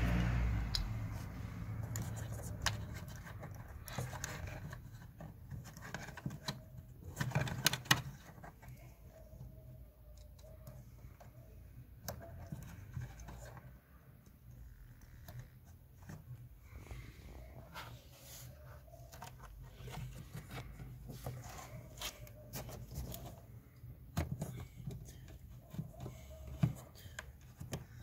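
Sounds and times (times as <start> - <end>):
hands handling wires and plastic: 0.7 - 28.0.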